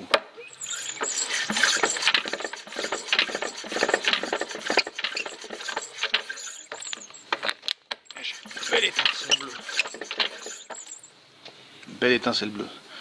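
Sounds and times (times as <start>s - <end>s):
engine turned over by hand: 0.4s - 11.1s.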